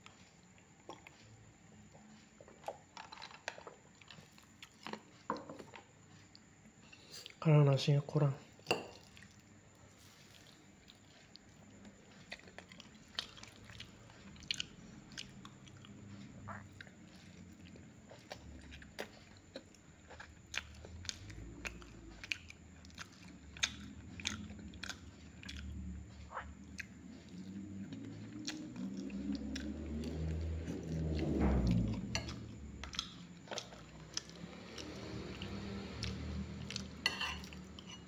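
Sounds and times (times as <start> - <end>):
person chewing food: 0.0 - 7.4, 8.9 - 38.0.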